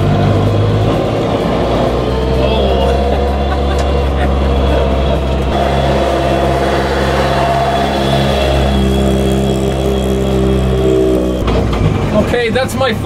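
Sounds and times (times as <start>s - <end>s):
rally car engine revving high: 0.0s - 13.0s
wheels spinning: 0.0s - 13.0s.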